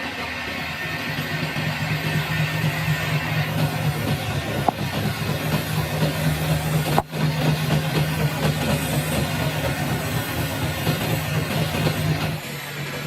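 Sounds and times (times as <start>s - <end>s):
machinery low hum: 0.0s - 13.0s.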